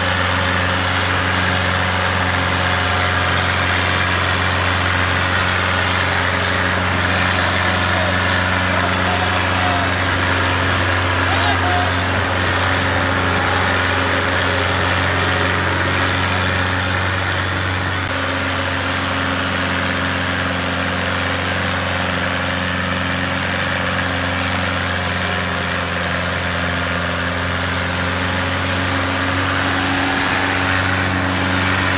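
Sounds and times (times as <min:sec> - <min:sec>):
tractor engine under load: 0:00.0 - 0:31.9.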